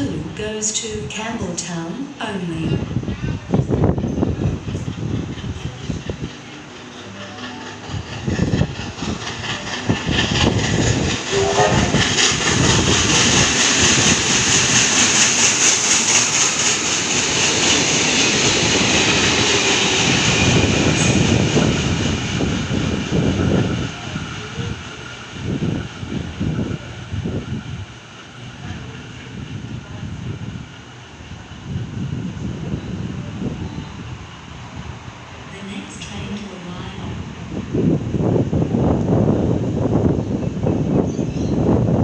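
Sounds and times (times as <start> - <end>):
steam train passing: 0.0 - 42.0.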